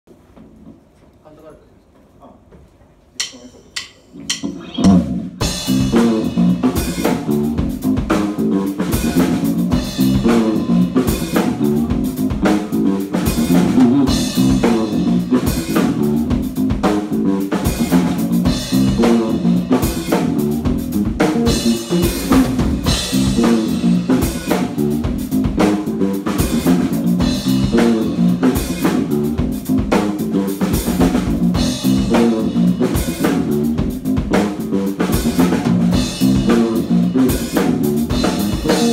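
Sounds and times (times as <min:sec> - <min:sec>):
drum kit beat: 0:03.2 - 0:38.9
electric bass guitar line: 0:04.2 - 0:38.9.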